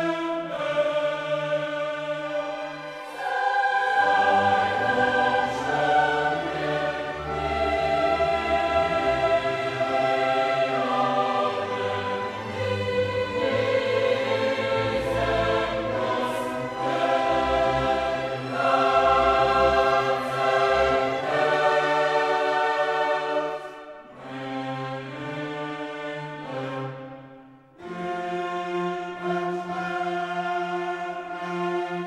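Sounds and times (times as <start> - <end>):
slow choral and orchestral music: 0.0 - 32.0.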